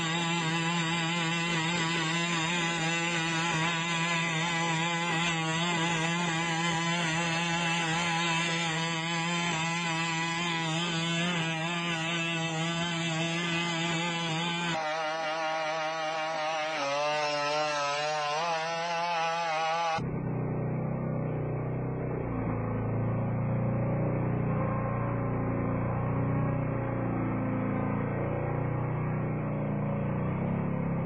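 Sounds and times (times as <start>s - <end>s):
robot engine buzzing drone: 0.0s - 31.0s.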